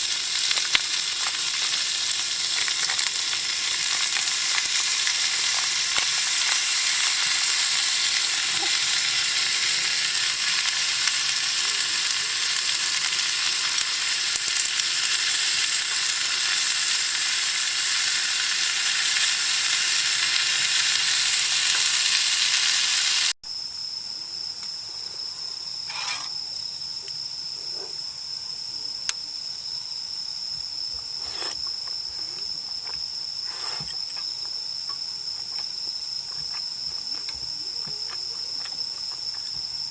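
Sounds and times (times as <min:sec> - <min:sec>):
food sizzling in frying pan: 0:00.0 - 0:23.4, 0:25.4 - 0:27.3, 0:29.4 - 0:39.9
insects calling: 0:00.0 - 0:39.9.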